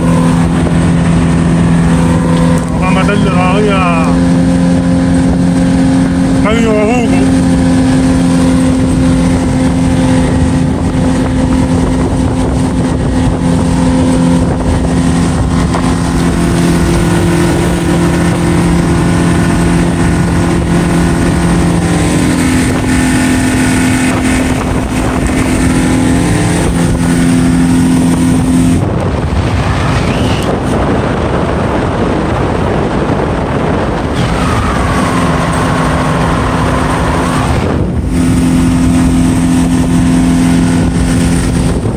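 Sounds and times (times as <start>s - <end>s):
outboard motor running: 0.0s - 41.9s
wind and water rush: 0.0s - 41.9s.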